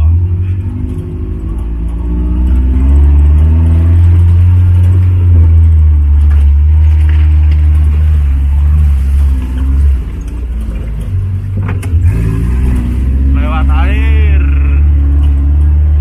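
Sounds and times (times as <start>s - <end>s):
jeep engine revving under load: 0.0s - 16.0s.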